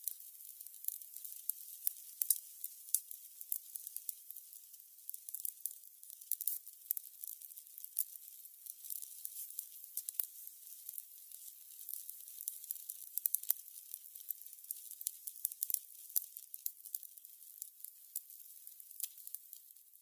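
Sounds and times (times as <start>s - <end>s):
candles crackling: 0.0s - 20.0s.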